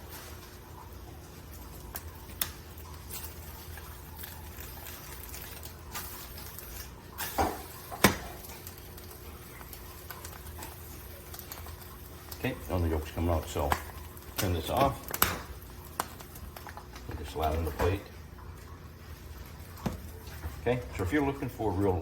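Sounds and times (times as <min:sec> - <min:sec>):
eggs sizzling in a frying pan: 0:00.0 - 0:22.0.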